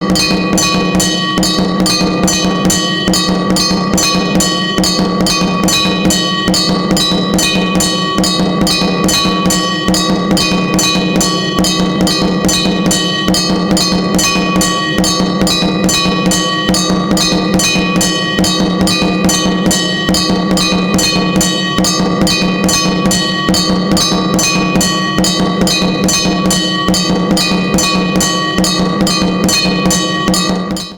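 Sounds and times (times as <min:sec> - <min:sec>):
bell ringing: 0:00.0 - 0:30.9
drum beating fast: 0:00.0 - 0:30.9.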